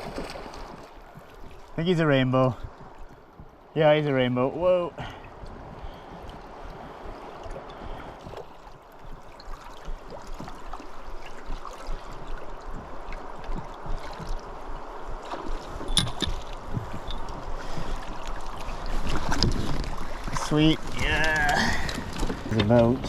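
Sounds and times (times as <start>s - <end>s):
small water splashes: 0.0s - 3.7s, 4.9s - 22.7s
river water against raft: 0.0s - 23.0s.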